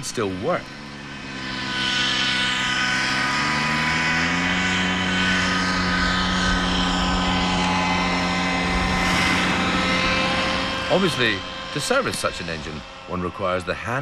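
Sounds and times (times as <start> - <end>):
model aircraft engine buzzing: 0.0 - 14.0.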